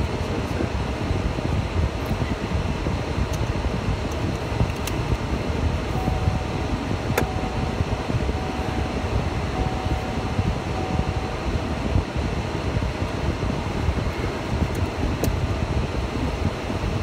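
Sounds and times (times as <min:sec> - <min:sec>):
faint steady whine: 0:00.0 - 0:17.0
road and engine rumble in car: 0:00.0 - 0:17.0.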